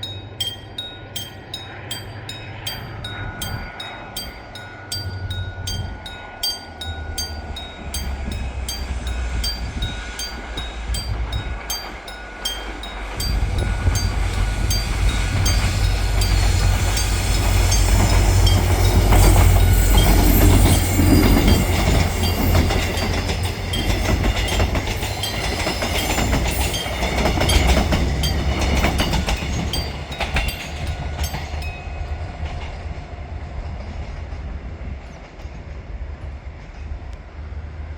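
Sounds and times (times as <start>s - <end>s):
wheels clattering over rail joints: 0.0s - 31.8s
passenger train rumbling past: 0.0s - 37.9s.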